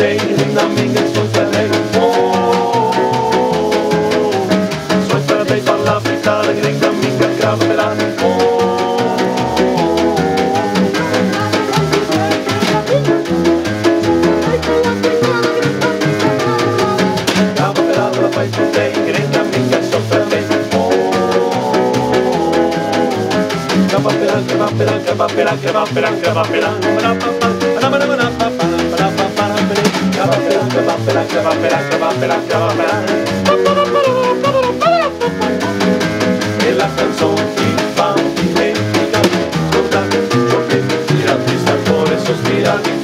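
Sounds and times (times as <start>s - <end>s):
held melody notes: 0.0s - 43.0s
piano: 0.0s - 43.0s
snare drum swing beat: 0.0s - 43.0s
upright bass: 0.0s - 43.0s.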